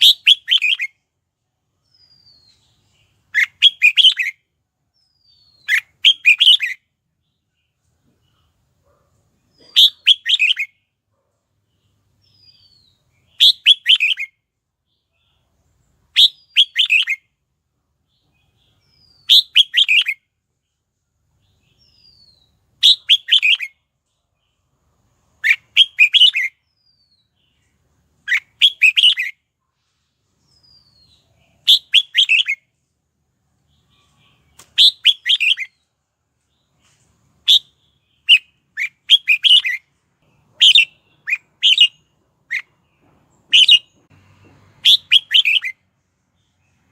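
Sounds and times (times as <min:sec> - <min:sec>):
bird singing warbled phrases: 0:00.0 - 0:01.1, 0:01.7 - 0:11.0, 0:11.6 - 0:29.5, 0:30.4 - 0:32.9, 0:33.6 - 0:44.1, 0:44.8 - 0:46.9.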